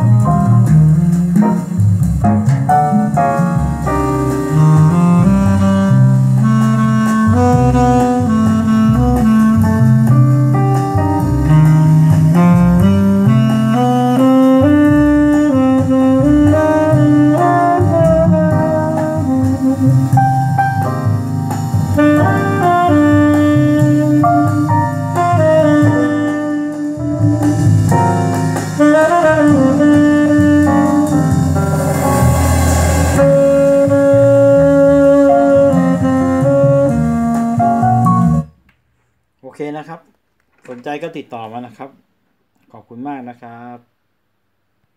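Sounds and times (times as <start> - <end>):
jazz with saxophone lead: 0.0 - 38.6.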